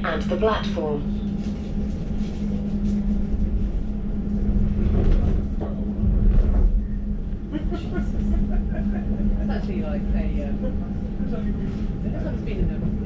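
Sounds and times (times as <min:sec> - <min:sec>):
low rumble: 0:00.0 - 0:13.0
train equipment humming: 0:00.0 - 0:13.0.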